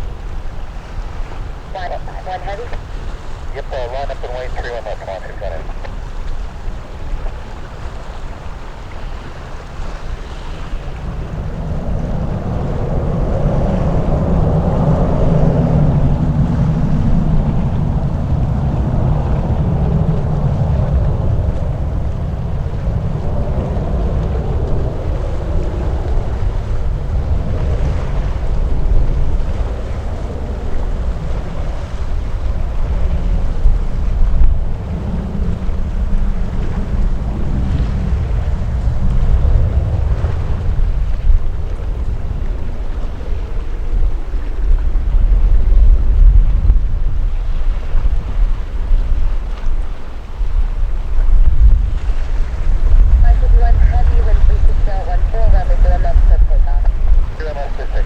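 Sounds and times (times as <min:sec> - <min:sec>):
jet engines rumbling: 0:00.0 - 0:58.0
wind buffeting microphone: 0:00.0 - 0:58.0.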